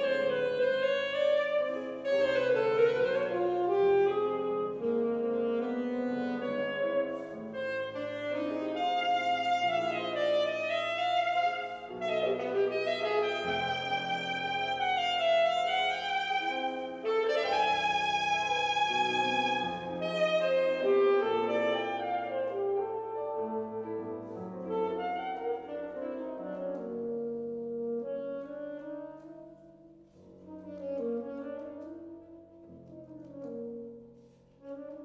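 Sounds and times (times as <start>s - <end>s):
alto saxophone melody: 0.0s - 35.0s
grand piano accompaniment: 0.0s - 35.0s.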